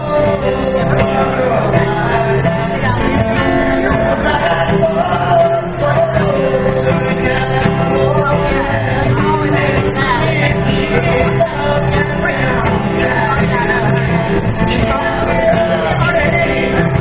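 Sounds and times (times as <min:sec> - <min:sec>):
guitar: 0:00.0 - 0:17.0
man singing: 0:00.0 - 0:17.0.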